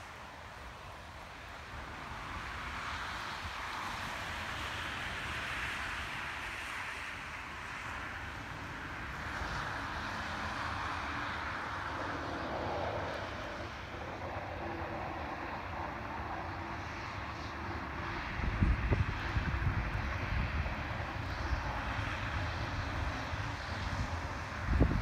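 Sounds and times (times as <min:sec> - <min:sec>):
traffic tyre hiss on wet road: 0:00.0 - 0:25.0.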